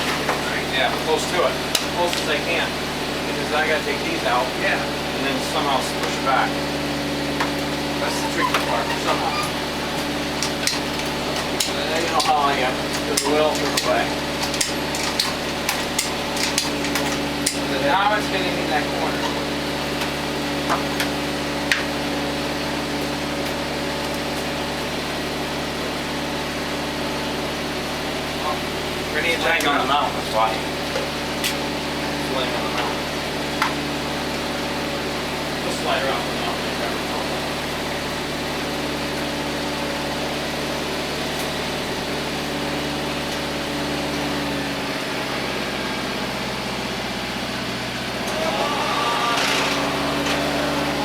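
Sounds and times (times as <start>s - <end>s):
tractor engine idling: 0.0s - 51.0s.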